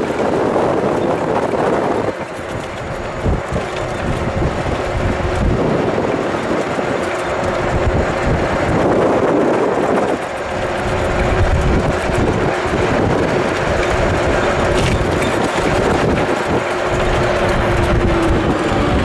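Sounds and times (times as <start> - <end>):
helicopter engine and rotor: 0.0 - 19.0
wind buffeting microphone: 0.0 - 19.0.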